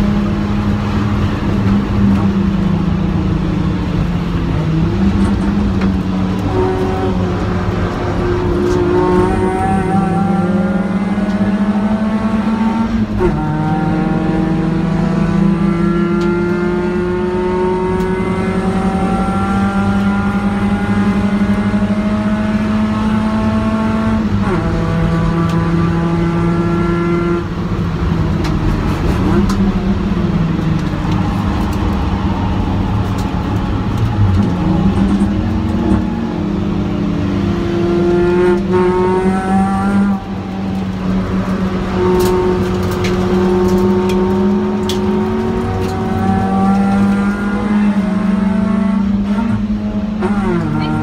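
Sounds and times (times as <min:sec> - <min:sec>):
car engine accelerating hard: 0:00.0 - 0:51.0.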